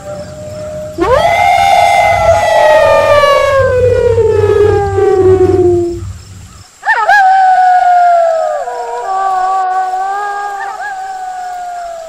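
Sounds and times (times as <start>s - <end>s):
wolf howling: 0.0s - 12.0s.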